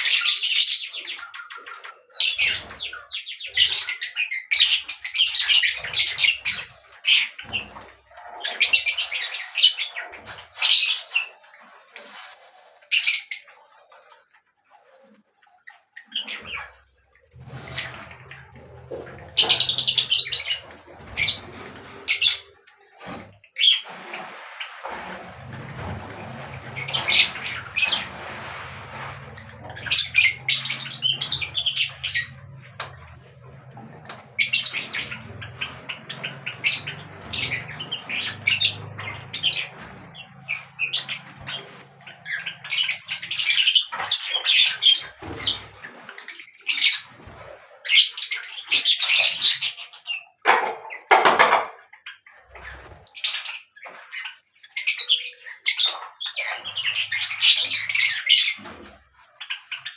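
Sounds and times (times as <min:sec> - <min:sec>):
birds chirping and squawking: 0:00.0 - 0:13.5, 0:15.6 - 0:24.0, 0:24.7 - 0:51.2, 0:51.9 - 0:59.9.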